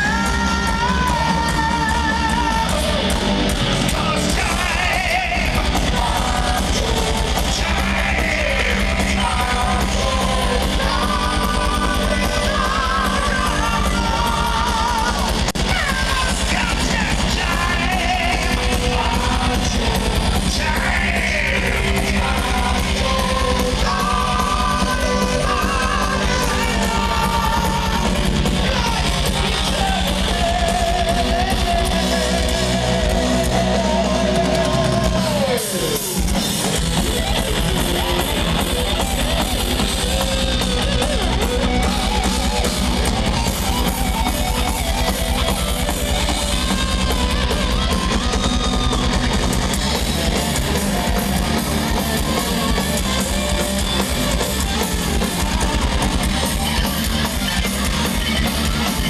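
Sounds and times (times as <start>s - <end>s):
live metal band playing: 0.0s - 59.0s.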